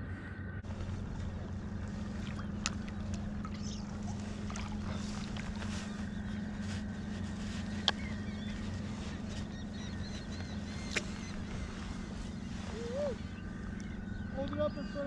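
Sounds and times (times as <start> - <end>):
distant boat motor droning: 0.0 - 15.0.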